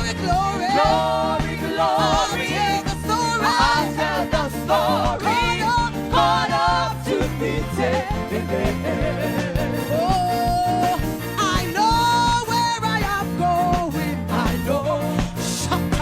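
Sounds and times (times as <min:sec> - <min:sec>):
band with bass and beat: 0:00.0 - 0:16.0
gospel singing voice: 0:00.0 - 0:16.0.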